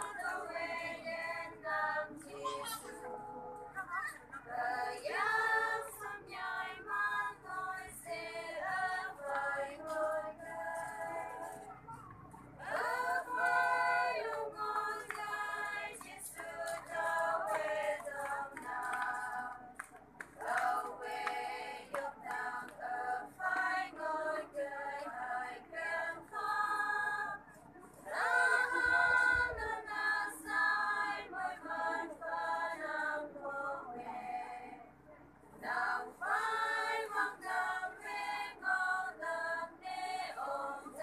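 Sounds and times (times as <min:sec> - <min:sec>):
women's choir singing unaccompanied: 0:00.0 - 0:41.0.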